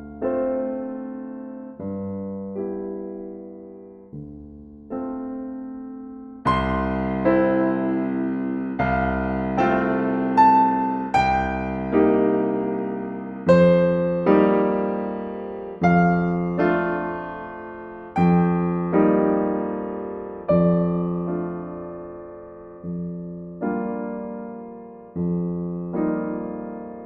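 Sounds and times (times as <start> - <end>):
slow solo piano: 0.0 - 27.0.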